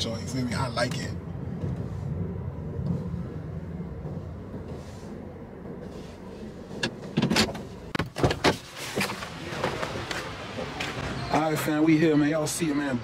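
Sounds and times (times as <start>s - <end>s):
car rumble inside cabin: 0.0s - 10.7s.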